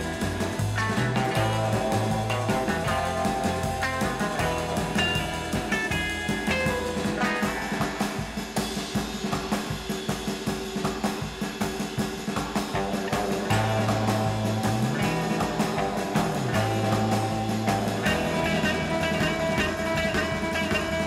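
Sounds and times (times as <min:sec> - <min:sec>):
rock music with drum beat: 0:00.0 - 0:21.0.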